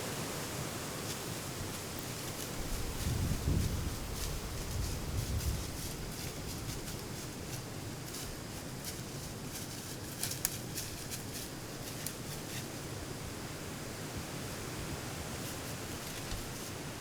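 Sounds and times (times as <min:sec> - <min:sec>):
low outdoor hiss: 0:00.0 - 0:17.0.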